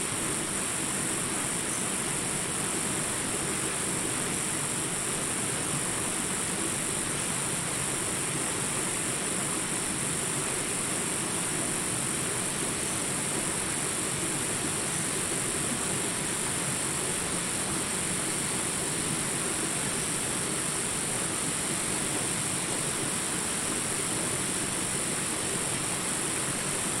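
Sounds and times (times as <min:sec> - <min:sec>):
water rushing over rocks: 0:00.1 - 0:27.0.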